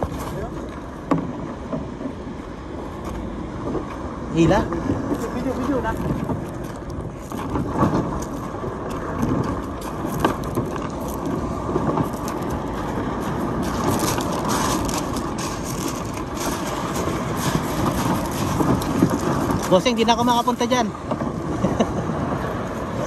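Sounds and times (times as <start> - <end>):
kayak dragged over pebbles: 0.0 - 23.0.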